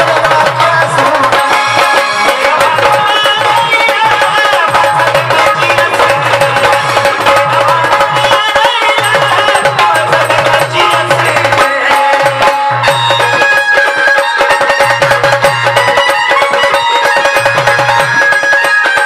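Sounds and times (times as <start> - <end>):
fast driving drum rhythm: 0.0 - 19.0.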